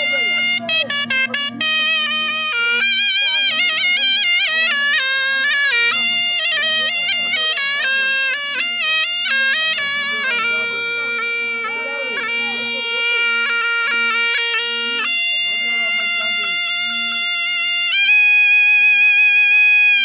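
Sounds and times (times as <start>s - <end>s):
double-reed oboe melody: 0.0s - 20.0s.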